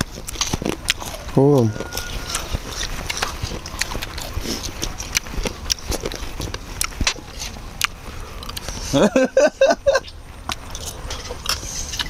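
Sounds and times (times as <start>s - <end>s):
wet chewing and lip-smacking: 0.0s - 9.0s, 10.0s - 12.0s.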